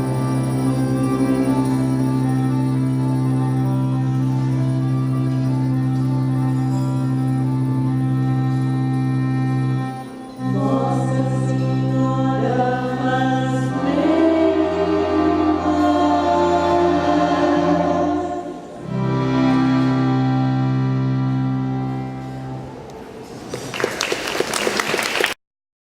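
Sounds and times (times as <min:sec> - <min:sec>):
sustained accompanying chords: 0:00.0 - 0:23.3
choir singing held notes: 0:00.0 - 0:23.6.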